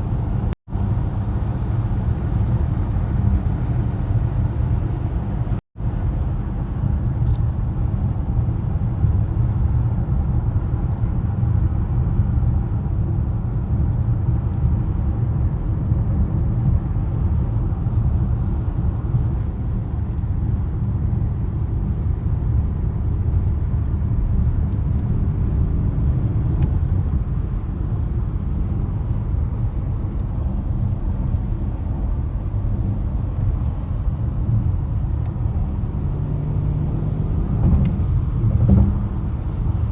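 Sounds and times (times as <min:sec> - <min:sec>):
road noise: 0:00.0 - 0:39.9
suv engine rumble: 0:00.0 - 0:39.9.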